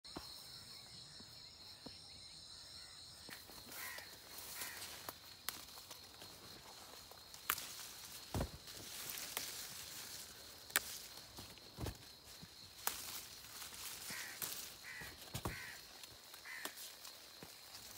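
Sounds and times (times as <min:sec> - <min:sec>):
leaves rustling against camera: 0:03.4 - 0:17.9.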